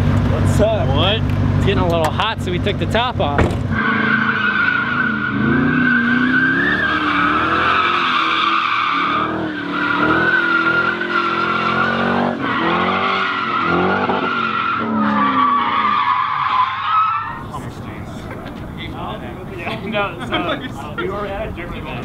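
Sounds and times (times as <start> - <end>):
car engine revving: 0.0 - 19.6
tyres screeching: 3.4 - 21.0.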